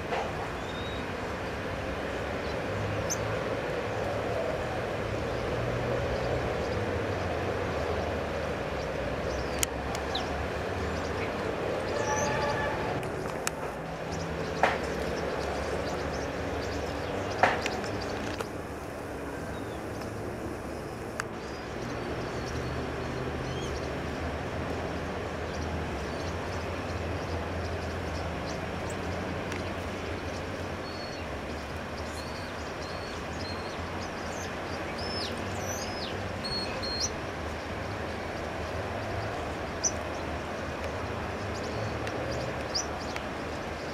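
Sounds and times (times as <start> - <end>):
distant traffic rumble: 0.0 - 43.9.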